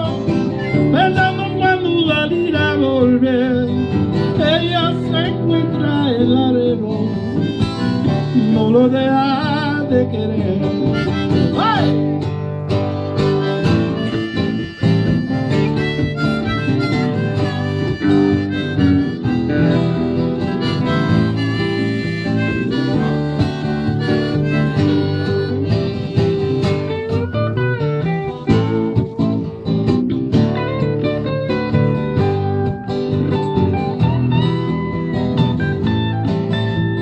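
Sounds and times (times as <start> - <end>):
country band instrumental: 0.0 - 37.0.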